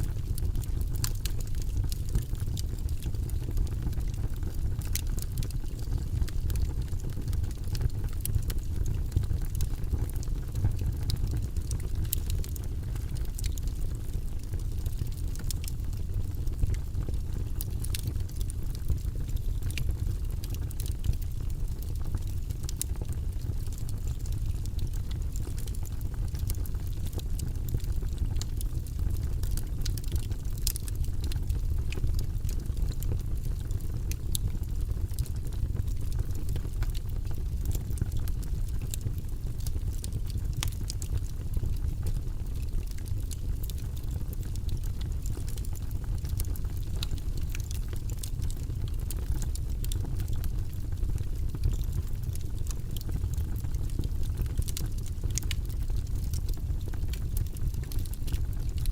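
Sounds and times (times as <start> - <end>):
logs crackling and popping: 0.0 - 58.9
low rumble of fire: 0.0 - 58.9.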